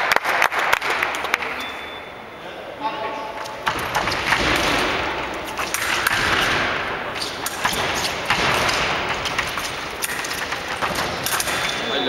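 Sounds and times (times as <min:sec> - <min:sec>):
broad rushing hall noise: 0:00.0 - 0:12.0.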